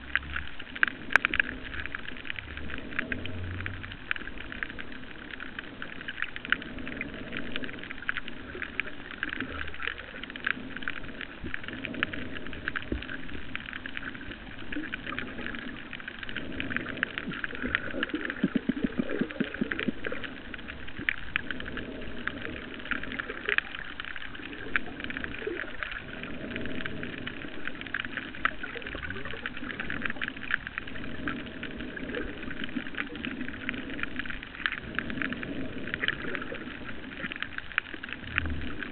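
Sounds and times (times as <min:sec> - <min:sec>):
low underwater rushing: 0:00.0 - 0:38.9.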